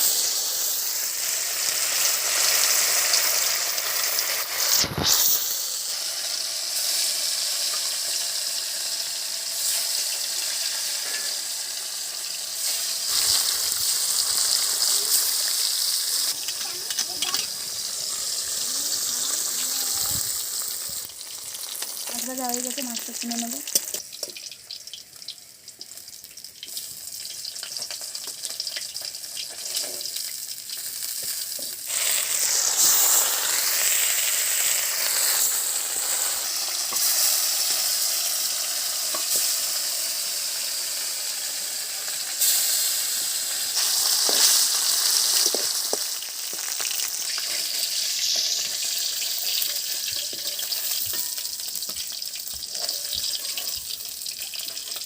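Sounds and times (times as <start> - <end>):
fish frying in oil: 0.0 - 55.0.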